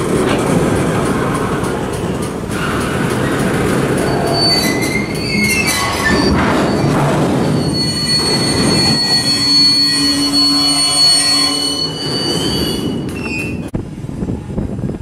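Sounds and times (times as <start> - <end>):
freight cars rumbling and clattering: 0.0 - 15.0
wheels squealing: 0.1 - 13.7.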